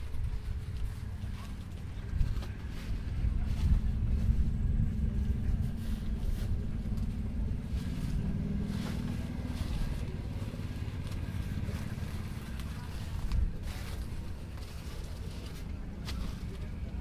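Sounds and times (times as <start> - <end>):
diesel tractor engine rumbling: 0.0 - 17.0.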